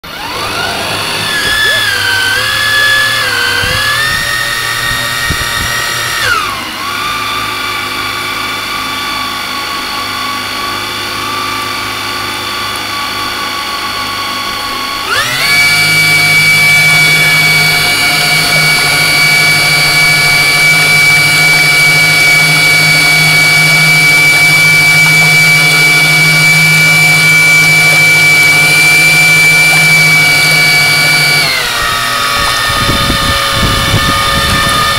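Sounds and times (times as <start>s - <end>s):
boat engine with high whine: 0.0s - 34.9s.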